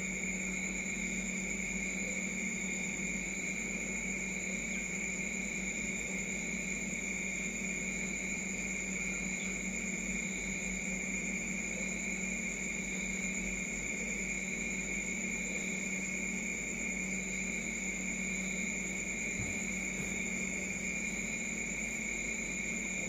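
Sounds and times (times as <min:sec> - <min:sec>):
night insects chorus: 0:00.0 - 0:23.0.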